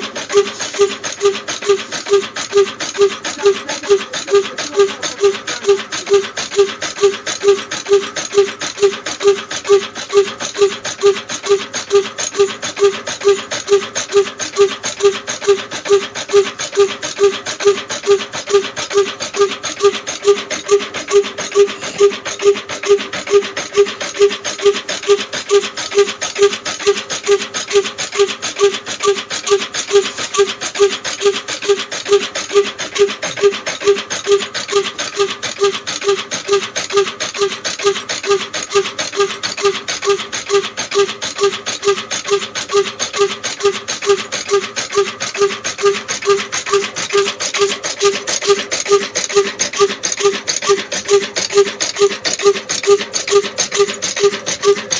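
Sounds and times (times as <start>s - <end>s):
diesel engine running slowly: 0.0s - 54.9s
grain mill hissing: 0.0s - 54.9s.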